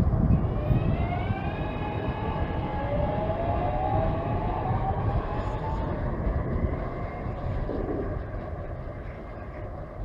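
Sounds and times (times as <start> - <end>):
rumble of wheels on rail: 0.0 - 10.0.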